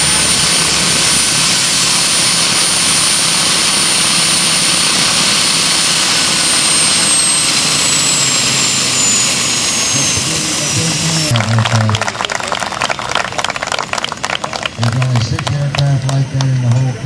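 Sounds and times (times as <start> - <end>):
model turbine engine whining: 0.0 - 17.0.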